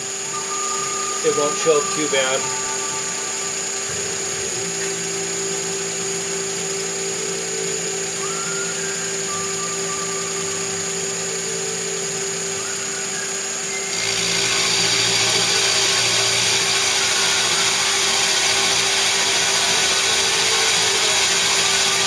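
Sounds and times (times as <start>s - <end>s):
milling machine cutting metal: 0.0s - 22.0s.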